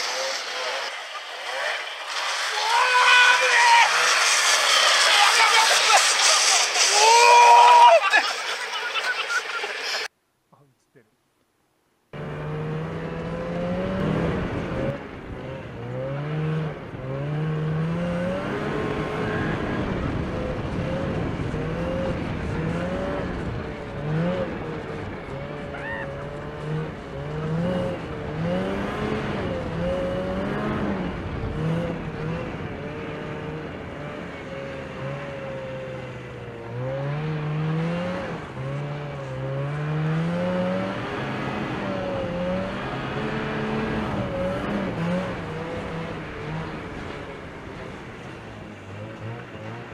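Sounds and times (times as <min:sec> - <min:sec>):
vehicle engine revving: 0:00.0 - 0:07.9, 0:12.1 - 0:49.9.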